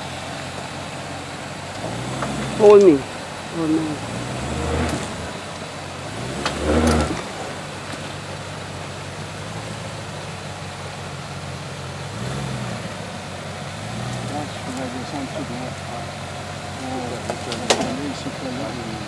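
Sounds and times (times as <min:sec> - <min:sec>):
car engine idling: 0:00.0 - 0:19.0
engine throttle surges: 0:00.0 - 0:19.0.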